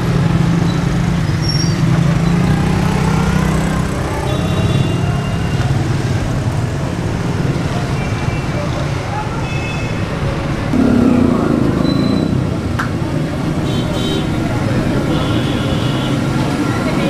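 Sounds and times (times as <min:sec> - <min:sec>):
street traffic engine drone: 0:00.0 - 0:17.0.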